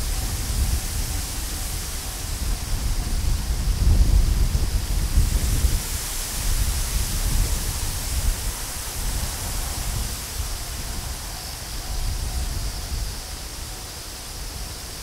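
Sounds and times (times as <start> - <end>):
steady high hiss: 0.0 - 15.0
wind buffeting microphone: 0.0 - 15.0.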